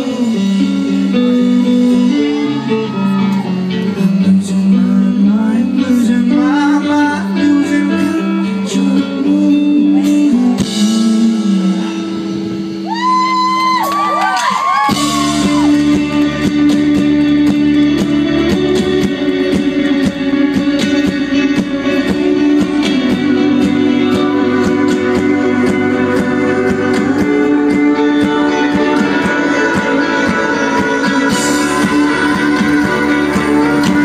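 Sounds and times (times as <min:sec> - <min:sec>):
person singing: 0:00.0 - 0:13.3, 0:14.5 - 0:34.0
deep bass: 0:00.0 - 0:34.0
guitar: 0:00.0 - 0:34.0
live rock band: 0:00.0 - 0:34.0.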